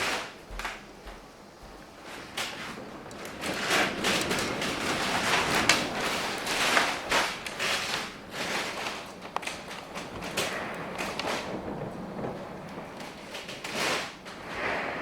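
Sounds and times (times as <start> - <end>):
storm wind gusting over microphone: 0.0 - 15.0.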